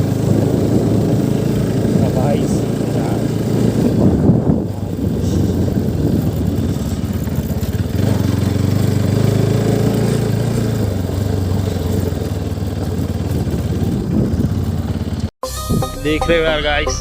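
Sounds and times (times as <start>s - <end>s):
small engine running: 0.0s - 15.3s.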